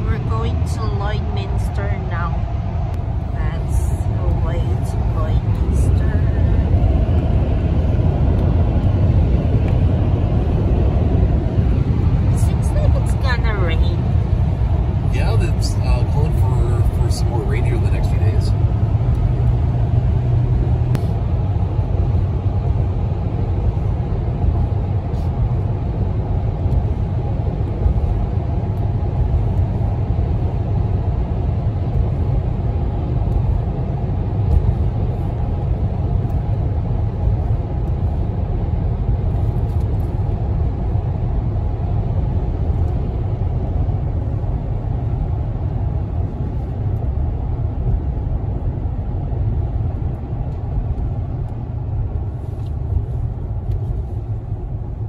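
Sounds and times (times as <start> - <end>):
road and engine rumble in cabin: 0.0 - 55.0.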